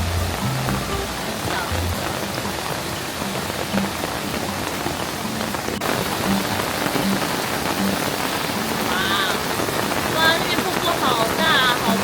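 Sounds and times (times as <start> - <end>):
waterfall splashing into stream: 0.0 - 12.0.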